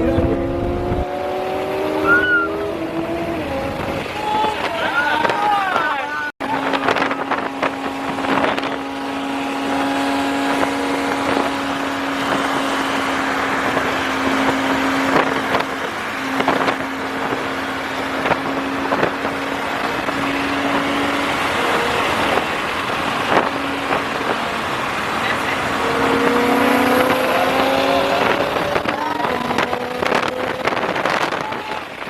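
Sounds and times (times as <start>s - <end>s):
car engine droning: 0.0s - 32.0s
road and wind noise: 0.0s - 32.0s.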